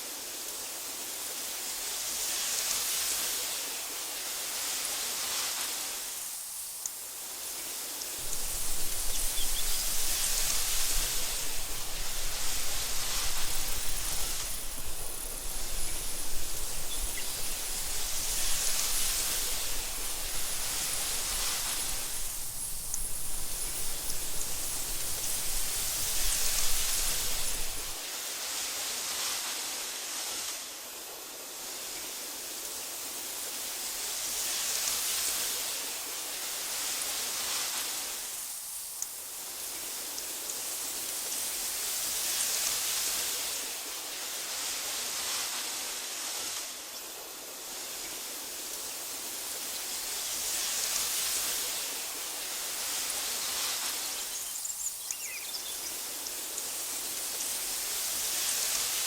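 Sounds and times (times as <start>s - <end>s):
wind through tall grass: 0.0s - 59.0s.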